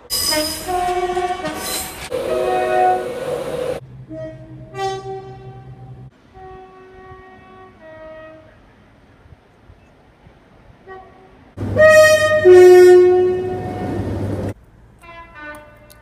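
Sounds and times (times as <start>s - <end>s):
two-tone train horn: 0.1s - 8.8s, 10.8s - 14.3s, 15.0s - 16.0s.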